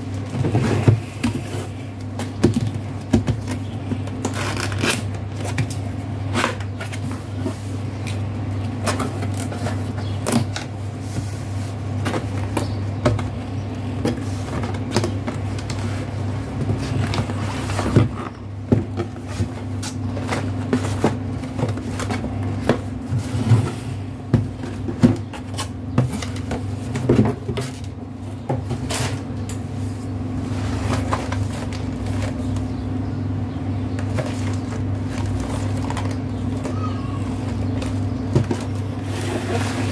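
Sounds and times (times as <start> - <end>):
cardboard boxes handled: 0.0 - 32.7, 33.7 - 39.9.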